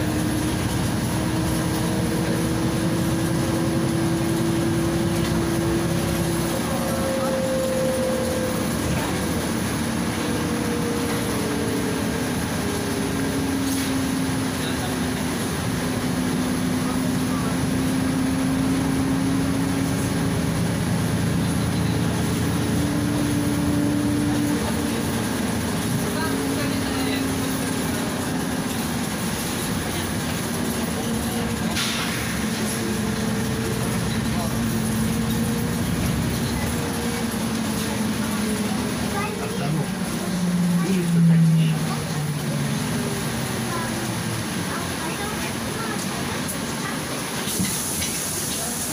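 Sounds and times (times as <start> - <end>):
bus engine hum: 0.0 - 48.9
road noise: 0.0 - 48.9.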